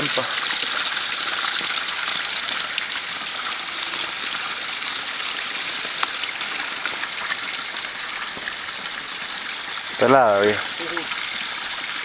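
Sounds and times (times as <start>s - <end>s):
spring water trickling into pool: 0.0s - 12.0s.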